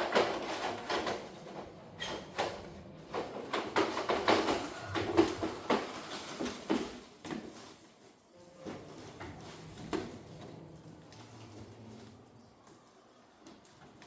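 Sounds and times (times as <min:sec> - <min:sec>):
objects knocking and clattering: 0:00.0 - 0:12.2.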